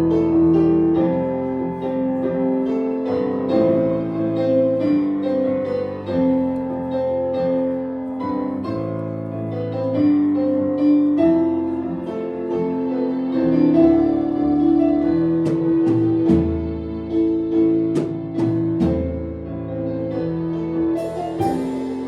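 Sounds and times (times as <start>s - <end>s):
piano worship music: 0.0s - 22.0s.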